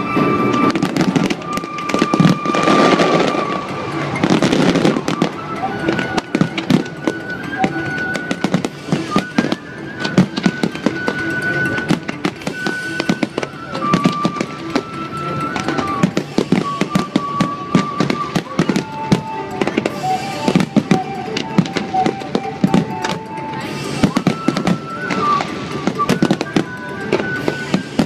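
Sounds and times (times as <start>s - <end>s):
fireworks bangs and crackling: 0.0s - 28.0s
held high tone: 0.0s - 28.0s.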